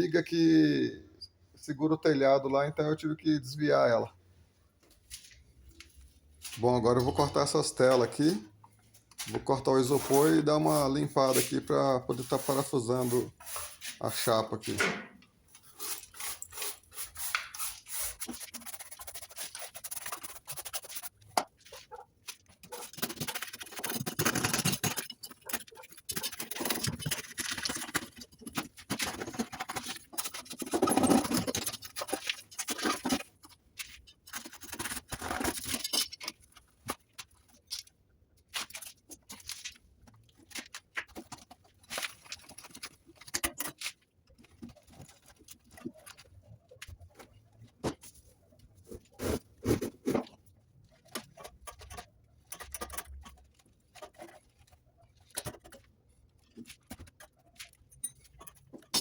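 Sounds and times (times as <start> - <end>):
hand scraping and cutting styrofoam: 9.2 - 14.8, 15.5 - 59.0.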